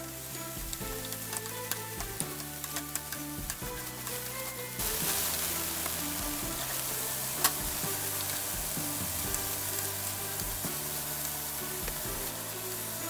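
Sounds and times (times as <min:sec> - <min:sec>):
food sizzling in a frying pan: 0:00.0 - 0:13.0
soft background music: 0:00.0 - 0:13.0
wooden spatula stirring: 0:00.2 - 0:13.0.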